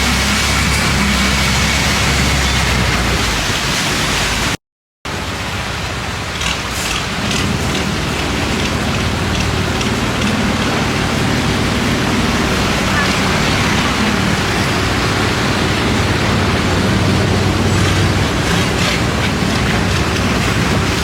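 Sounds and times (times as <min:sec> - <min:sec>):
boat engine droning: 0:00.0 - 0:21.0
wind and water spray rushing: 0:00.0 - 0:21.0.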